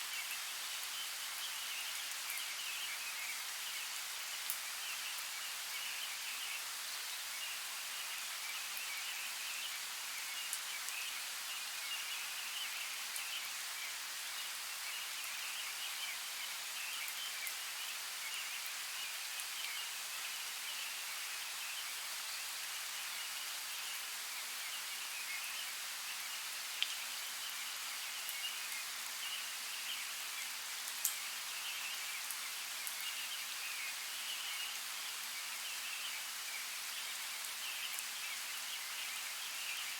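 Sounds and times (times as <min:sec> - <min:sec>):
even outdoor hiss: 0:00.0 - 0:39.9.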